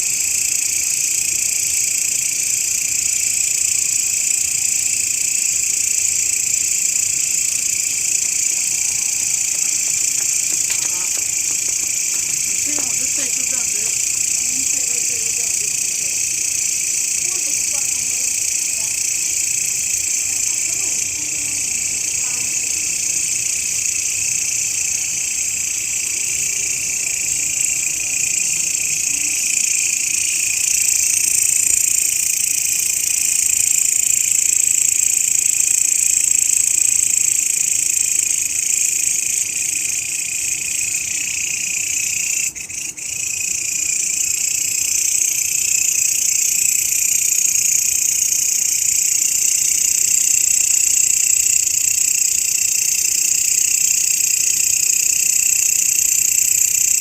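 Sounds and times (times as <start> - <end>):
grasshopper shrill buzz: 0.0 - 25.1, 25.8 - 57.0.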